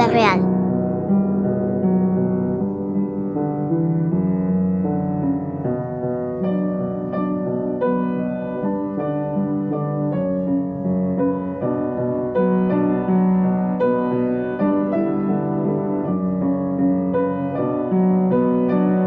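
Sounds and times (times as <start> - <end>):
background piano music: 0.0 - 19.0.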